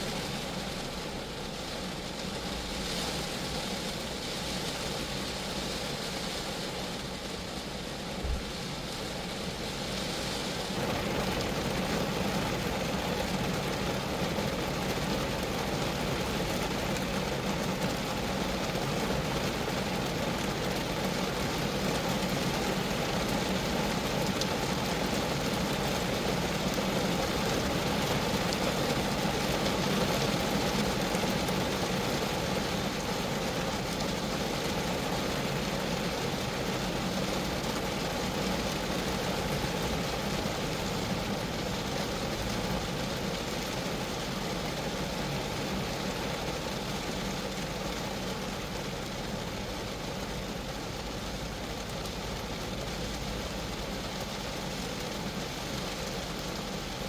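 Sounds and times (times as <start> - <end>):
rain on a car roof: 0.0 - 57.0.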